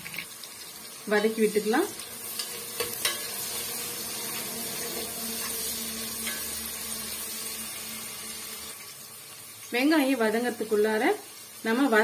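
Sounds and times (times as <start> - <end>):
shallots sizzling in hot oil: 0.0 - 12.0.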